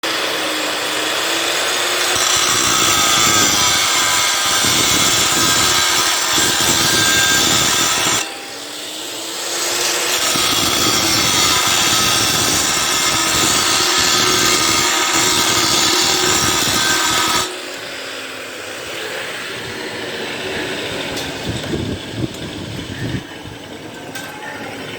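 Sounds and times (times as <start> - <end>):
cut-off wheel cutting iron: 0.0 - 24.9.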